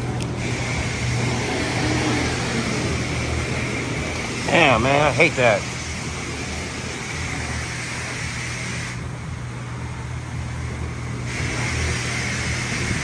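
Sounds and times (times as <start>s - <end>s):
motor hum: 0.0s - 13.0s
hiss: 0.3s - 9.1s, 11.1s - 13.0s.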